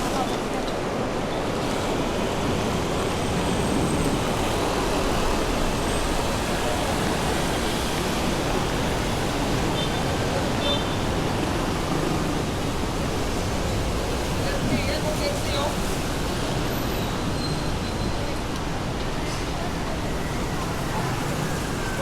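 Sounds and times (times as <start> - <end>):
heavy rain: 0.0 - 22.0
traffic on wet roads: 0.0 - 22.0.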